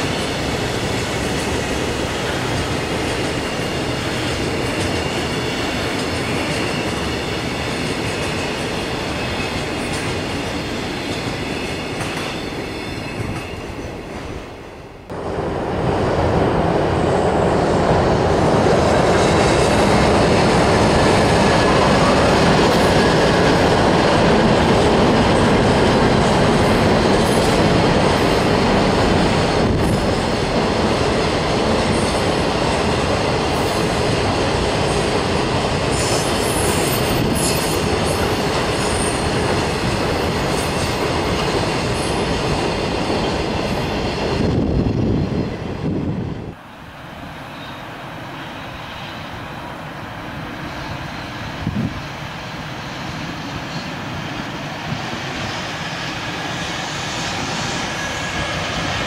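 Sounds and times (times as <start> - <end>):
train rumbling across bridge: 0.0 - 59.0.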